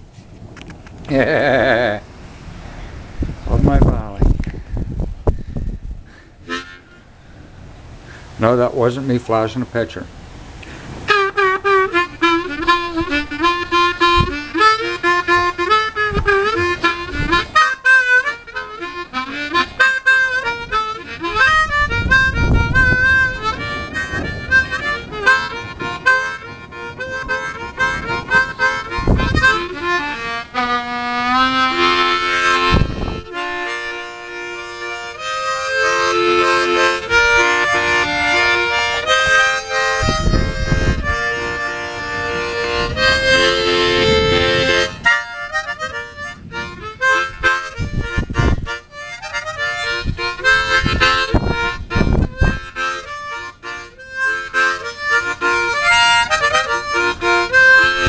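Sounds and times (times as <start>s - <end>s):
harmonica playing: 6.1s - 8.2s, 10.6s - 58.0s
low thumps: 11.0s - 58.0s.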